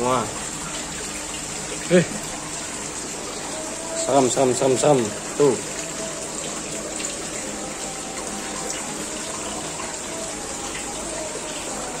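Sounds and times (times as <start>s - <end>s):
rushing bubbling water: 0.0s - 12.0s.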